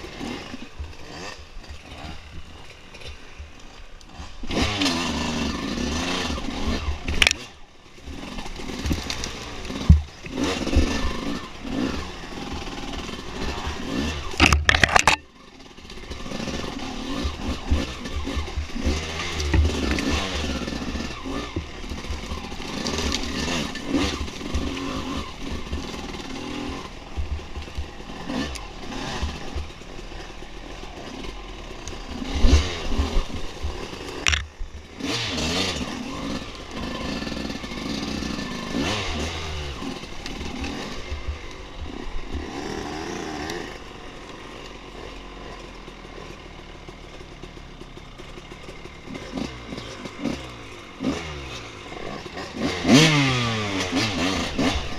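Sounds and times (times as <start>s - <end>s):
clatter from rough ground: 0.0s - 54.9s
dirt bike engine revving: 0.0s - 54.9s.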